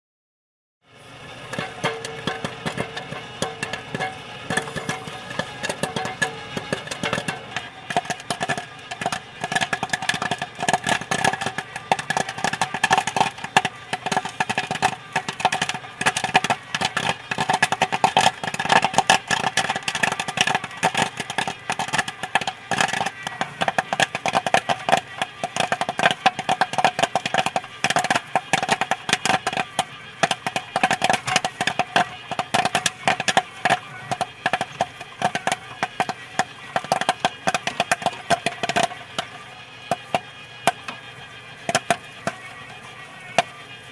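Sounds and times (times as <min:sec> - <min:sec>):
popcorn popping: 0:00.8 - 0:43.9
steady hum: 0:00.9 - 0:43.9.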